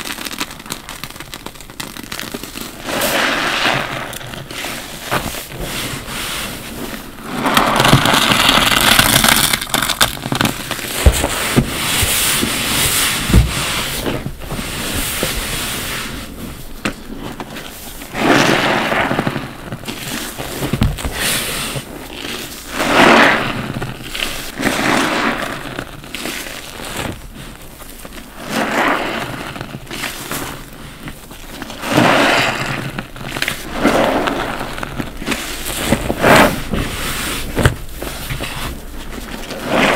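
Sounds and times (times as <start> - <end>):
soapy foam crackling: 0.0 - 39.9
wet sponge squelching: 0.6 - 39.9.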